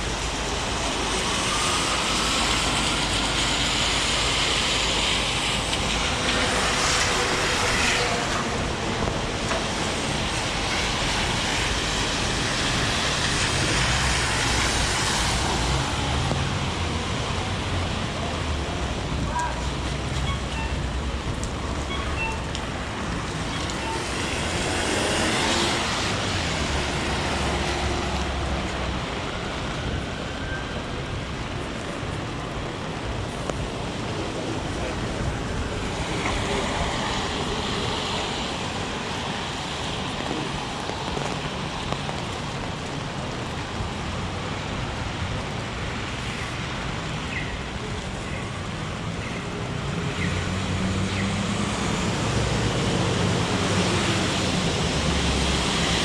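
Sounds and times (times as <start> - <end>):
heavy rain on street: 0.0 - 56.0
traffic hissing on wet road: 0.0 - 56.0.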